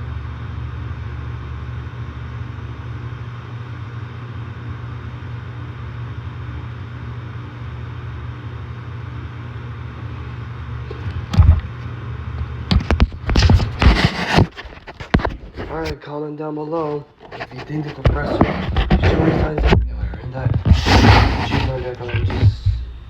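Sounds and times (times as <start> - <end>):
compressor humming: 0.1 - 16.0, 16.6 - 23.0
fan rushing: 3.2 - 16.0, 16.7 - 23.0.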